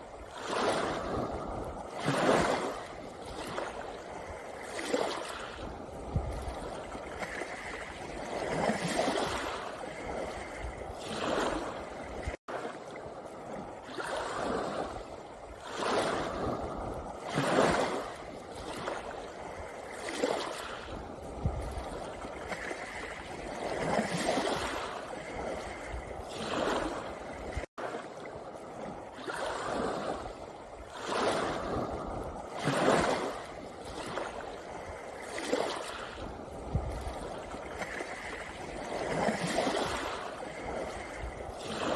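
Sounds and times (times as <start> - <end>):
waves washing onto pebble beach: 0.1 - 12.8, 13.4 - 41.9.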